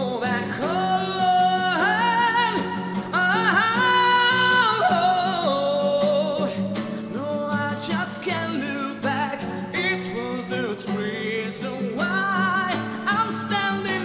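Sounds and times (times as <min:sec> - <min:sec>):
man singing with vibrato: 0:00.0 - 0:14.0
strummed acoustic guitar: 0:00.0 - 0:14.0.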